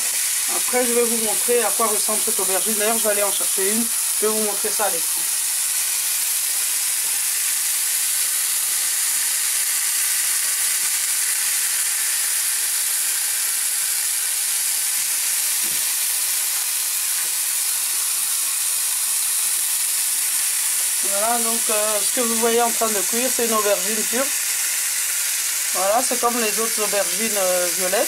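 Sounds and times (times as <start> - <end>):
meat and vegetables sizzling in grill pan: 0.0 - 28.0.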